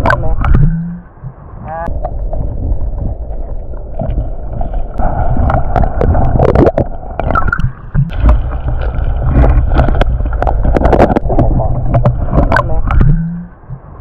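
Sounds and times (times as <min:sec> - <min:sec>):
low rumble: 0:00.0 - 0:14.0
muffled underwater water sloshing: 0:00.0 - 0:14.0.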